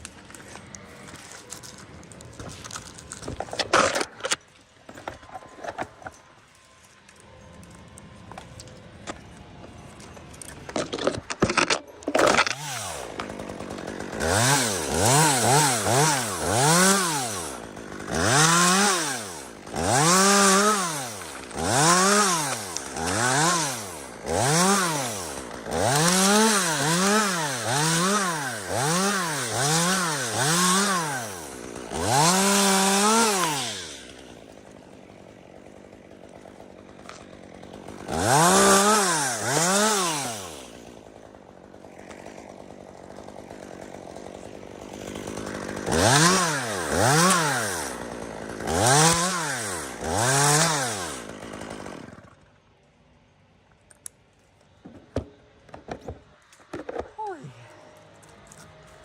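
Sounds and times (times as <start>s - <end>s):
chainsaw revving: 0.0s - 6.2s, 9.9s - 52.6s
chainsaw idling: 0.0s - 59.0s.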